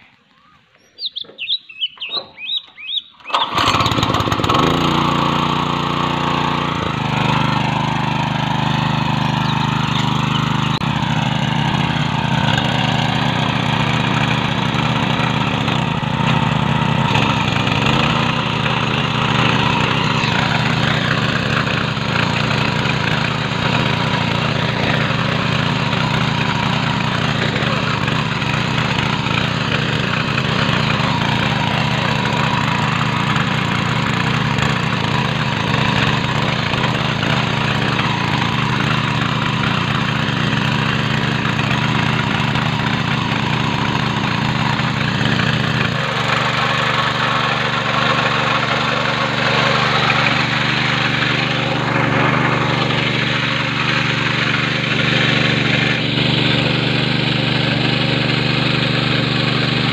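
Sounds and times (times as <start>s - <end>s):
petrol engine running under load: 1.9s - 59.9s
tines churning stony soil: 3.3s - 59.9s.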